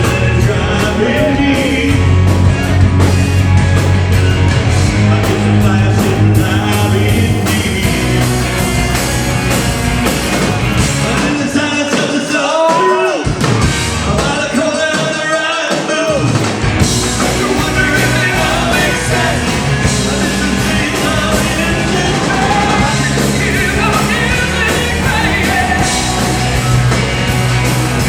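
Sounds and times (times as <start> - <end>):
lead vocal singing: 0.0 - 28.0
rock band playing live: 0.0 - 28.0.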